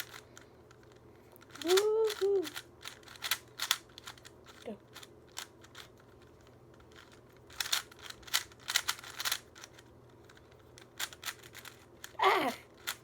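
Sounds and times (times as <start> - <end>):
puzzle cube clicking: 0.0 - 13.0.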